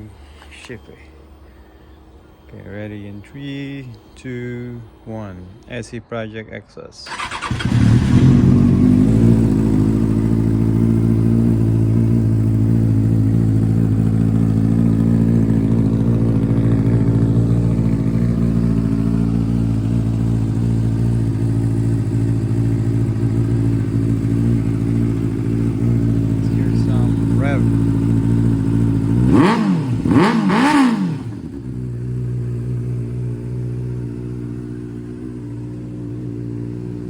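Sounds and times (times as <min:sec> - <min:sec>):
motorcycle engine idling: 0:07.0 - 0:37.0.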